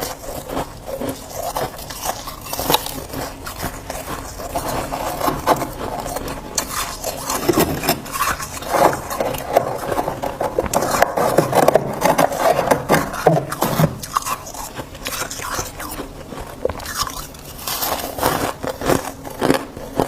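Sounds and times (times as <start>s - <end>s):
freezer frost crunching: 0.0s - 20.0s.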